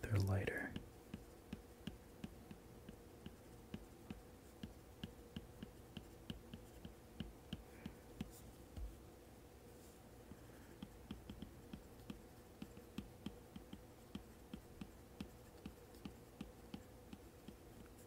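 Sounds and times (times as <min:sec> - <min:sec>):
low room hum: 0:00.0 - 0:18.0
stylus tapping on tablet screen: 0:00.7 - 0:09.0, 0:10.3 - 0:18.0.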